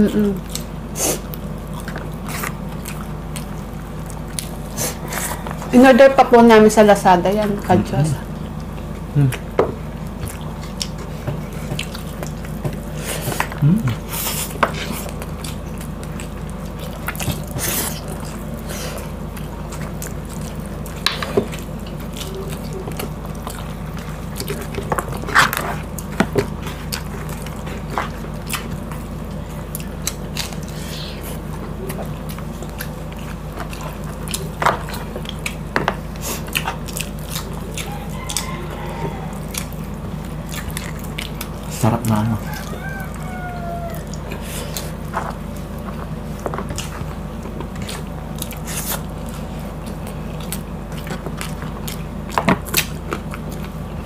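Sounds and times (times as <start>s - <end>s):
people chewing and mouth sounds: 0.0s - 54.0s
steady low hum: 0.0s - 54.0s.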